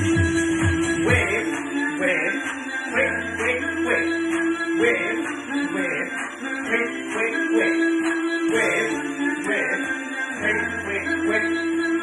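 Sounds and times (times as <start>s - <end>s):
bass: 0.0s - 12.0s.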